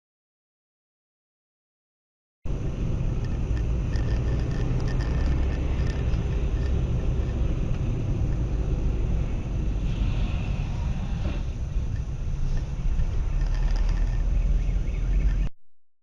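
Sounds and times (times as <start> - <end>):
car engine and road noise: 2.5 - 15.5.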